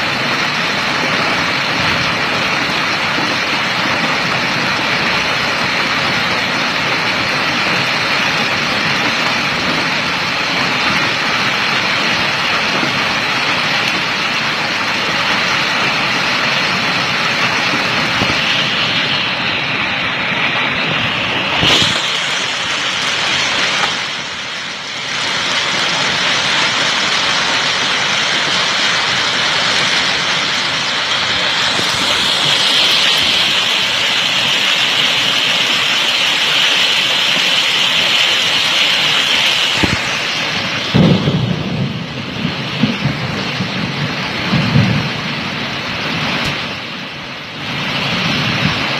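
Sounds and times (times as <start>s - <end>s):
heavy hail and rain: 0.0s - 48.9s.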